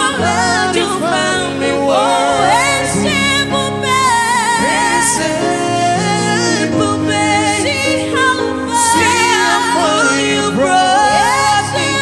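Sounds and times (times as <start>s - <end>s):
person singing: 0.0s - 12.0s
sustained instrumental chords: 0.0s - 12.0s.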